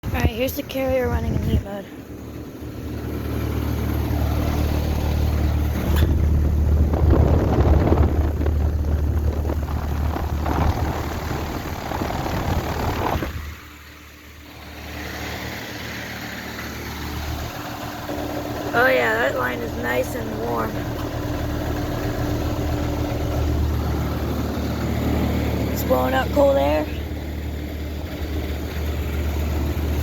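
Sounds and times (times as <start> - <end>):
heat pump humming: 0.0 - 30.0.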